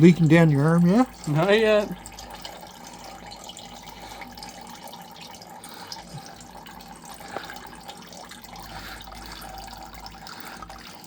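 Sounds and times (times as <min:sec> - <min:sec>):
oil trickling: 0:00.0 - 0:11.0.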